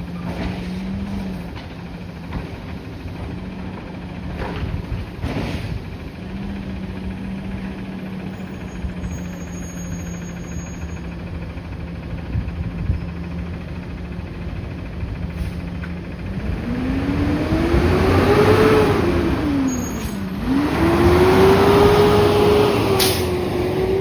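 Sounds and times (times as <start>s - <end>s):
garbage truck engine revving: 0.0s - 24.0s.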